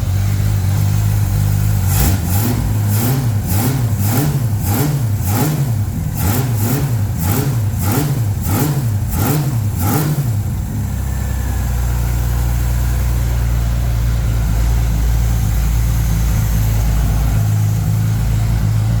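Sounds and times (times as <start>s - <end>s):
engine deep idle: 0.0s - 19.0s
engine revving through exhaust: 0.0s - 19.0s.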